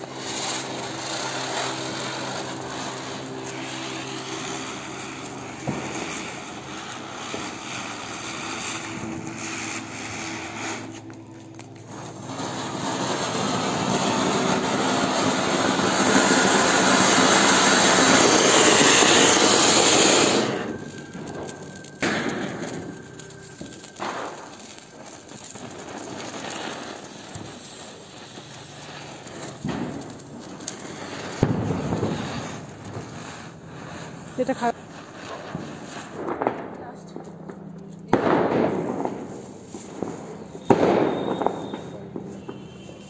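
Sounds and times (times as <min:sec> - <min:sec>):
firecrackers popping and crackling: 0:00.0 - 0:43.0
fireworks hissing sparks: 0:00.0 - 0:43.0.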